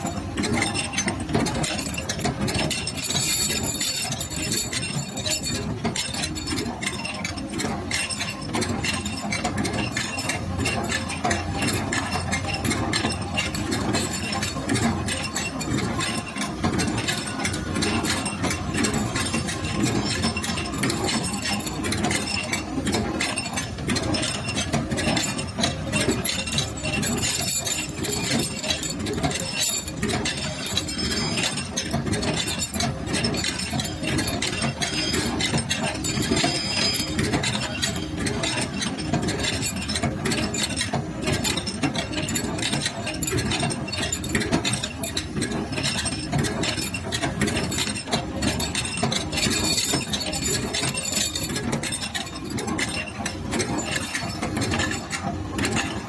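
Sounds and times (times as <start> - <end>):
bending machine metallic clatter: 0.0 - 56.0.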